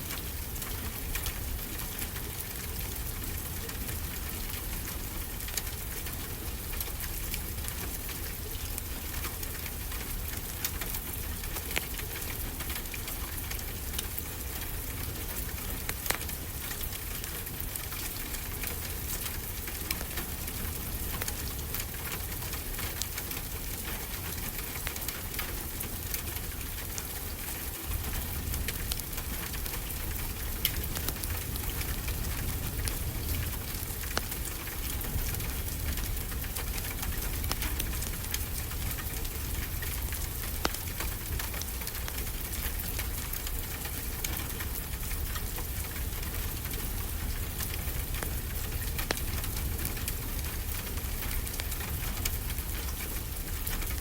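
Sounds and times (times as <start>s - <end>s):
steady rain hiss: 0.0s - 54.0s
wood fire crackling: 0.1s - 54.0s.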